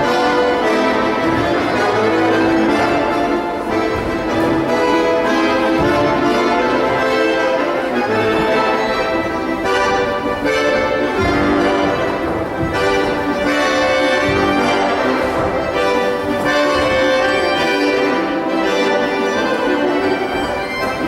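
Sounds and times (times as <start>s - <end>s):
instrumental dance music: 0.0s - 21.0s.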